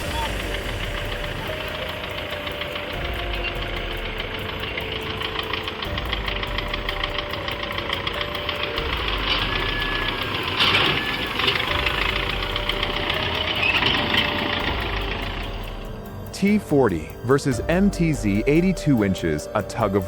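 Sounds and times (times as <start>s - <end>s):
tractor engine knocking: 0.0s - 20.0s.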